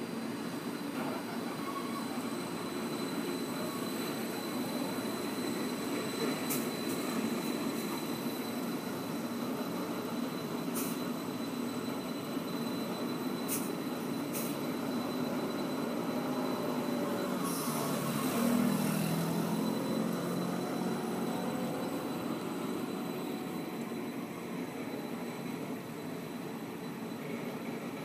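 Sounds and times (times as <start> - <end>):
thin high whine: 0.8 - 27.8.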